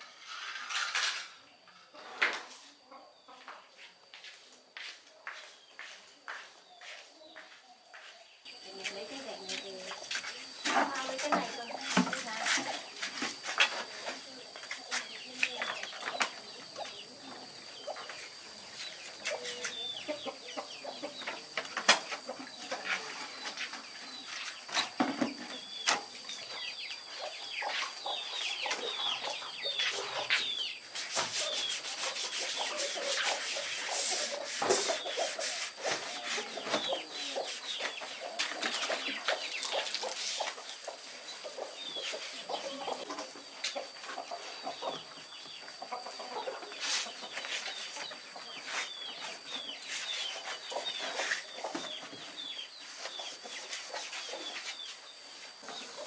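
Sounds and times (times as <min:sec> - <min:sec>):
chickens clucking: 0:05.2 - 0:56.0.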